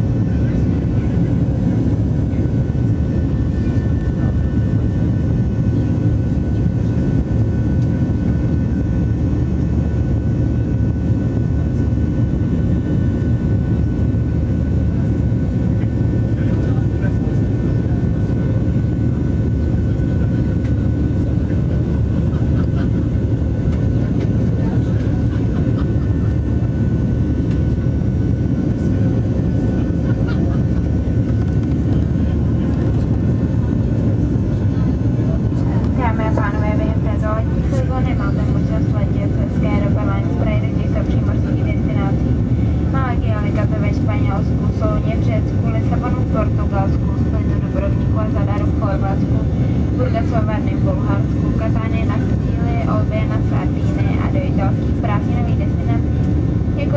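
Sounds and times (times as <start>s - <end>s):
jet engine cabin drone: 0.0s - 56.9s.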